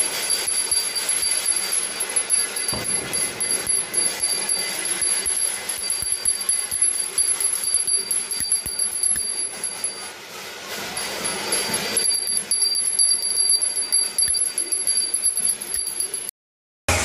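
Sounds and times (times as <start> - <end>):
hand bell ringing: 0.0 - 10.2, 10.9 - 16.3.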